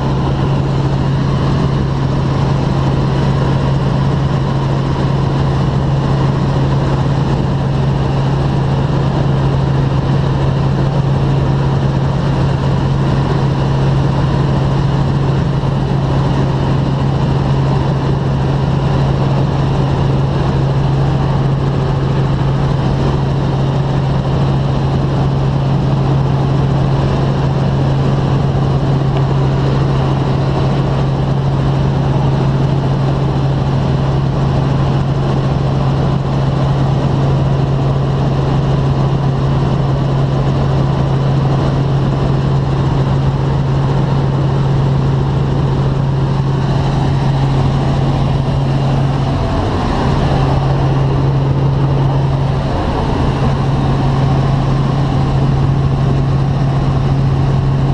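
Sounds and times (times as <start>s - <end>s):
helicopter engine and rotors droning: 0.0s - 57.9s.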